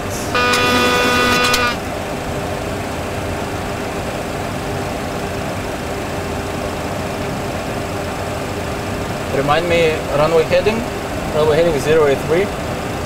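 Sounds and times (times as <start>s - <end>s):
faint steady hum: 0.0s - 13.0s
simulated engine and slipstream noise: 1.2s - 13.0s.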